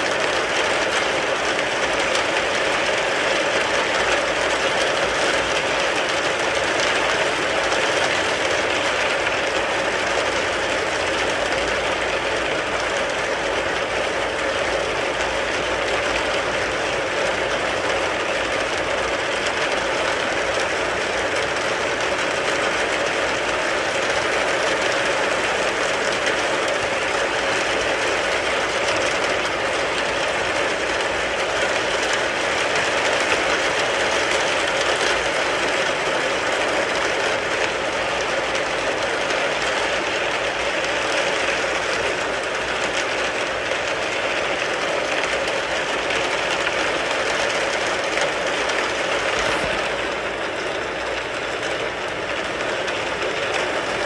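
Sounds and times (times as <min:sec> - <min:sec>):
rain falling on a car: 0:00.0 - 0:25.0, 0:25.7 - 0:49.4.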